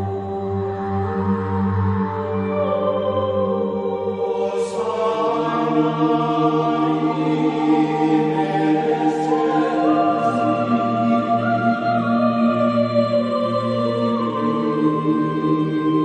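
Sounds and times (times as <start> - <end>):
ambient music with held chords: 0.0 - 16.0
chant-like choir voices: 0.0 - 16.0.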